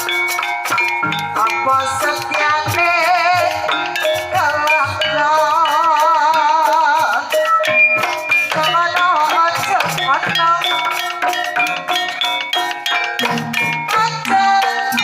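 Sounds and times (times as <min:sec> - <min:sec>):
gamelan music: 0:00.0 - 0:15.0
struck metallophone tones: 0:00.0 - 0:15.0.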